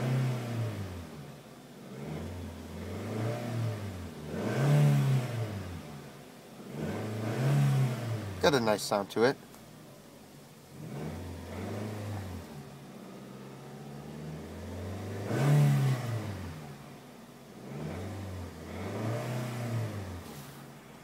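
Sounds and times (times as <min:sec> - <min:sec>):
car engine revving: 0:00.0 - 0:08.9, 0:10.4 - 0:21.0.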